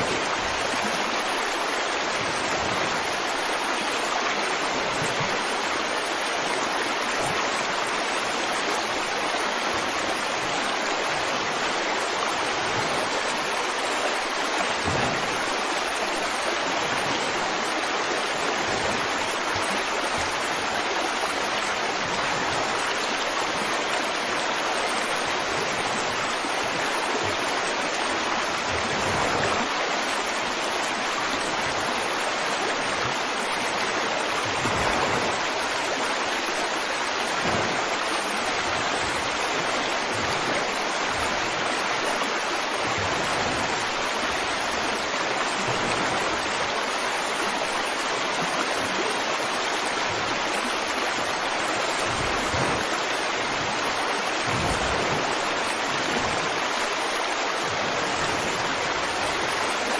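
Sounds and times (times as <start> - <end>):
water gurgles: 0.0 - 59.9
water rushing: 0.0 - 59.9.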